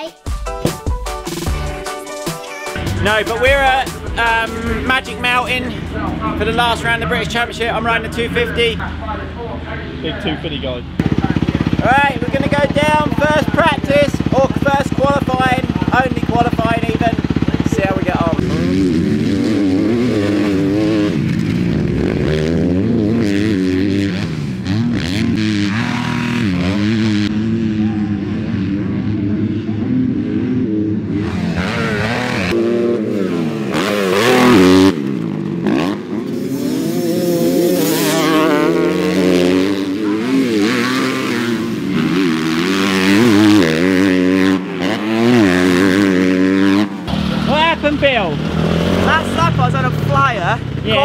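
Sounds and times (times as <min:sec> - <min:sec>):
motocross bike engine revving: 0:02.8 - 0:51.0.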